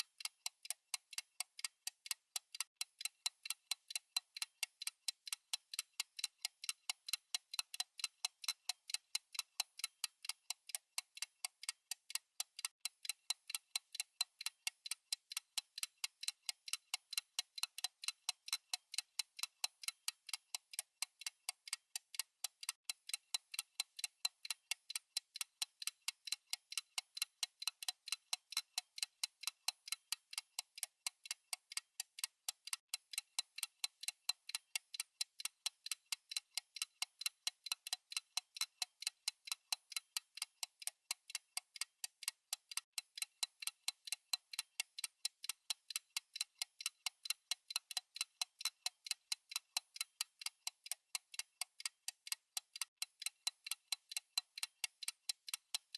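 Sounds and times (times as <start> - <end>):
fast clock ticking: 0.0 - 55.9.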